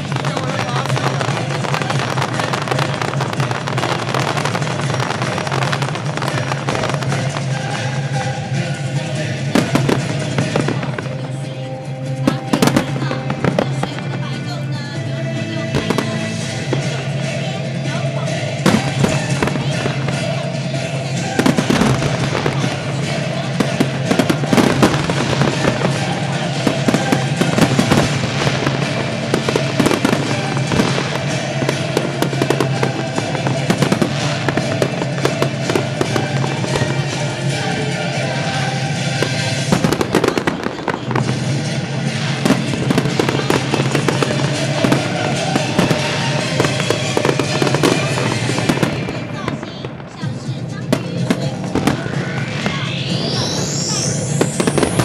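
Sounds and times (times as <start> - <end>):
fireworks crackling: 0.0 - 55.0
music playing: 0.0 - 55.0.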